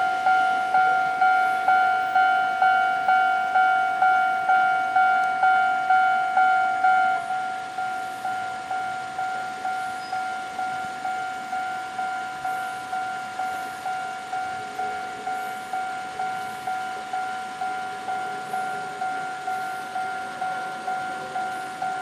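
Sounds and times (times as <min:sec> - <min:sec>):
level crossing warning bell ringing: 0:00.0 - 0:22.0.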